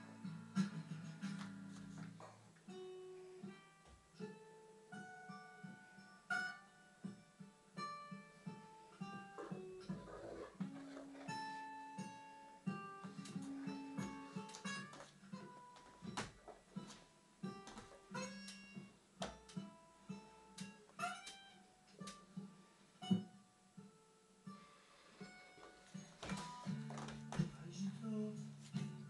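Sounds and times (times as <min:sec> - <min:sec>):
acoustic guitar picking: 0:00.0 - 0:29.0.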